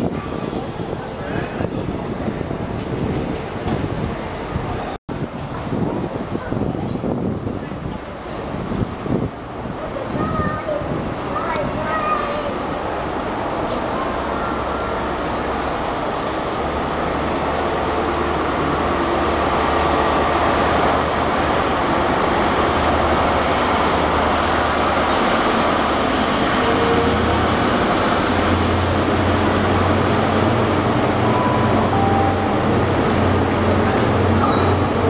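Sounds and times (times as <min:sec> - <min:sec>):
train rumbling with low drone: 0:00.0 - 0:35.0.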